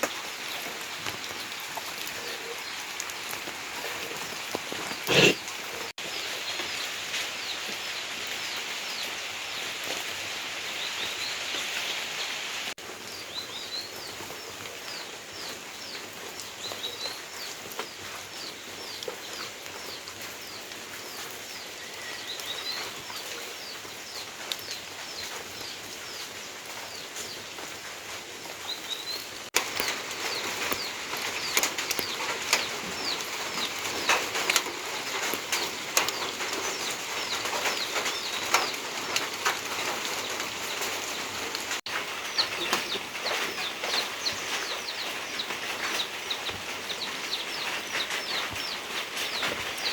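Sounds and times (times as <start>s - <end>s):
rain hiss: 0.0s - 49.9s
small birds chirping: 0.0s - 49.9s.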